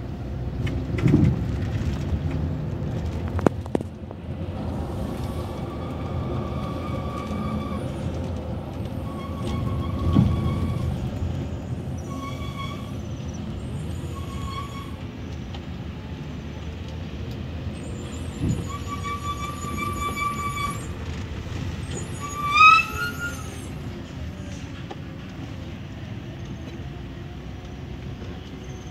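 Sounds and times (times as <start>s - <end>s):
bus engine and road rumble: 0.0s - 28.9s.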